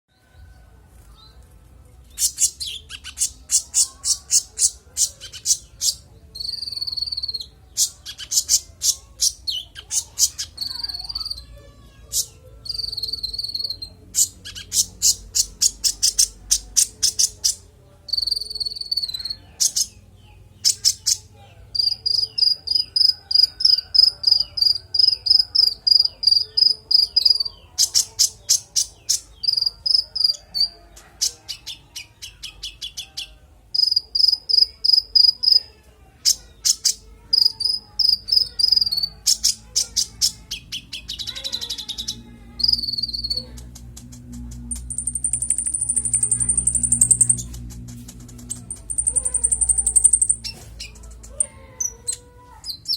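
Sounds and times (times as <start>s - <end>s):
songbird singing trills: 2.1s - 35.7s, 36.3s - 52.9s.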